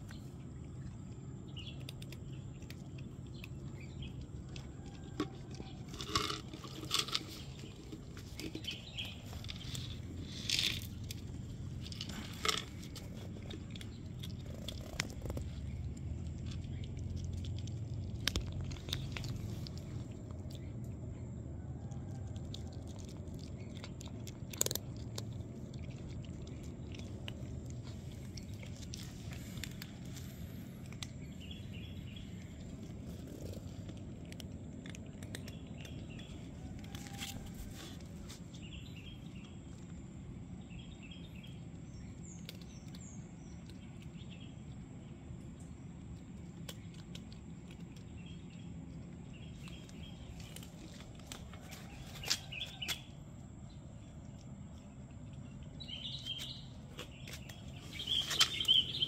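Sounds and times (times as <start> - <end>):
cats crunching dry kibble: 0.0 - 59.0
low background rumble: 0.0 - 59.0.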